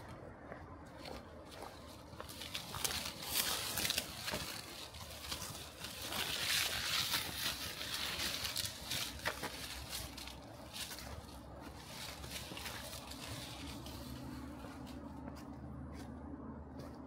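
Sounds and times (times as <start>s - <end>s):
footsteps crunching on trail: 0.0s - 17.0s.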